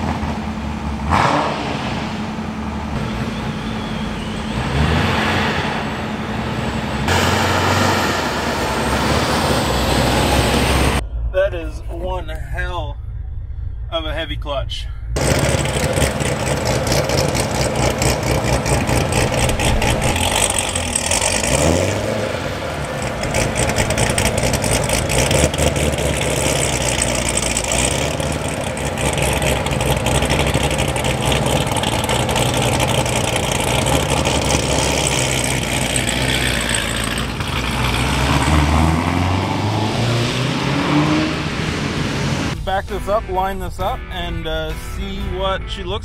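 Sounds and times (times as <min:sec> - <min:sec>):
car engine idling and revving: 0:00.0 - 0:11.0, 0:15.2 - 0:42.6.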